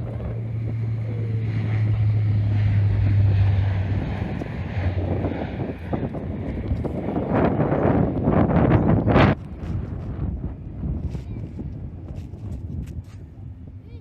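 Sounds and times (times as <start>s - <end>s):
jet airliner passing: 0.0s - 14.0s
wind buffeting microphone: 0.0s - 14.0s.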